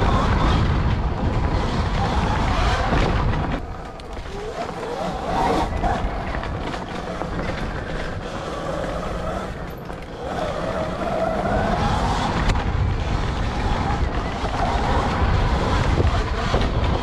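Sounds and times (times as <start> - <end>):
dirt bike engine revving: 0.0 - 17.0
wind on microphone: 0.0 - 17.0.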